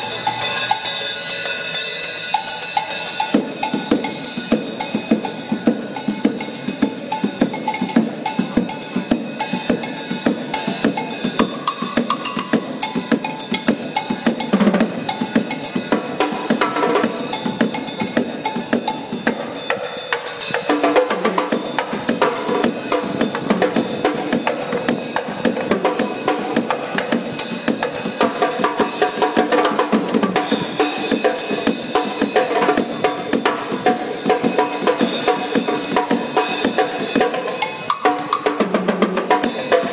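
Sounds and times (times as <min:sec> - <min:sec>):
fast drum beat: 0:00.0 - 0:39.9.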